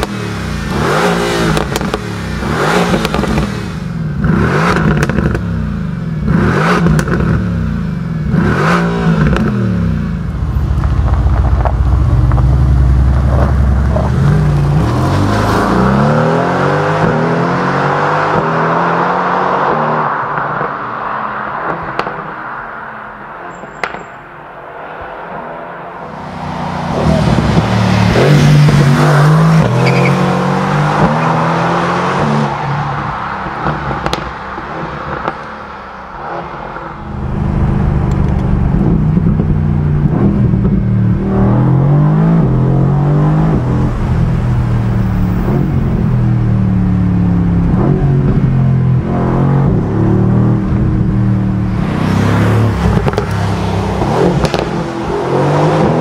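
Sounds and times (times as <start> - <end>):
car engine accelerating hard: 0.0 - 20.8, 26.0 - 56.0.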